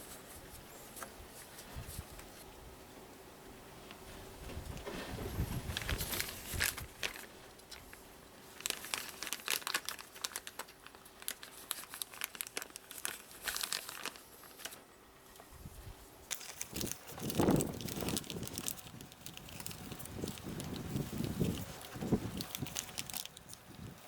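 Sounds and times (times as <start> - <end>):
crinkling and rustling with clicks: 3.8 - 15.5, 16.3 - 24.0.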